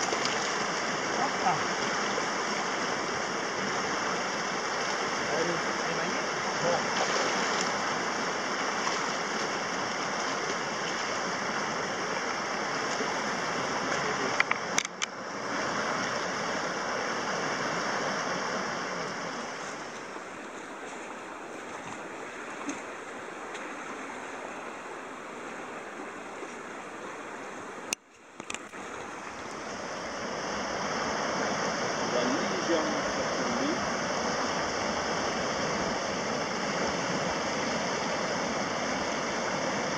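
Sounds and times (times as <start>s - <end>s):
river rapids rushing: 0.0s - 28.0s, 28.7s - 39.9s.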